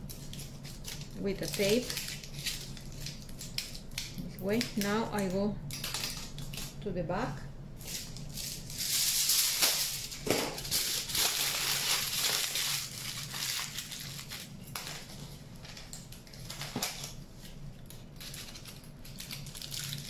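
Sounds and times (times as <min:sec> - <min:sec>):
aluminium foil crumpling: 0:00.0 - 0:06.8, 0:07.8 - 0:20.0.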